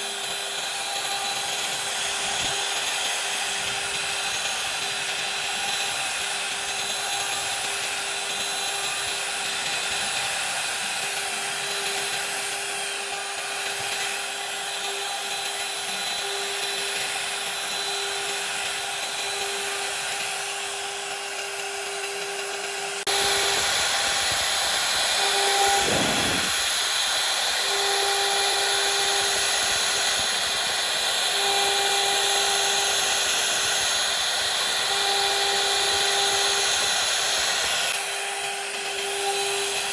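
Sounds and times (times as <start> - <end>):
router spindle whine: 0.0 - 39.9
wood cutting noise: 0.0 - 39.9.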